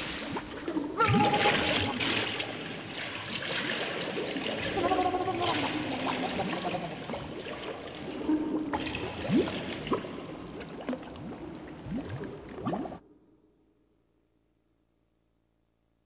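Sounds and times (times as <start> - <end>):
liquid bubbling and gurgling: 0.0 - 13.1.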